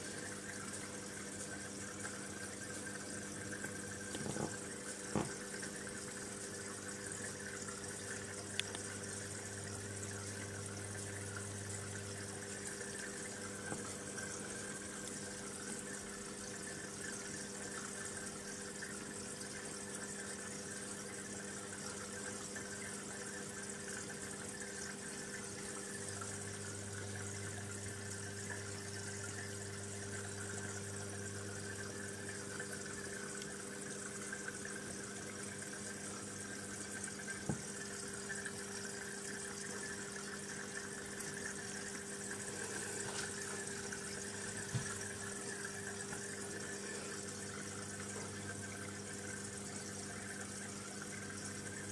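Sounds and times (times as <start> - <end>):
fish tank pump humming: 0.0 - 51.9
water bubbling and trickling: 0.0 - 51.9.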